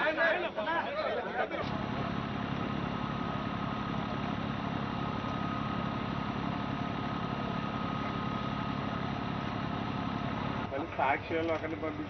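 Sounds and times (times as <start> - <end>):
thin steady whine: 0.0 - 12.0
boat engine running: 1.6 - 12.0.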